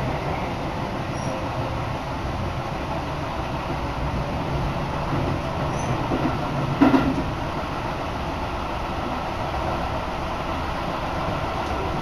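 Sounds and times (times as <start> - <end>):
train carriage running noise: 0.0 - 12.0.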